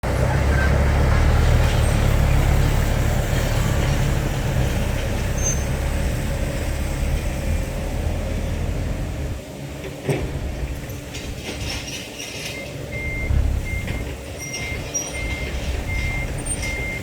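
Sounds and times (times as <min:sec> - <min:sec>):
diesel truck engine drone: 0:00.0 - 0:17.0.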